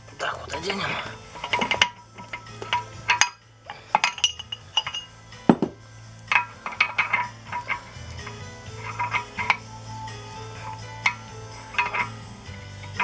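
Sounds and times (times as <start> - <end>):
metal parts clinking: 0.6 - 13.0.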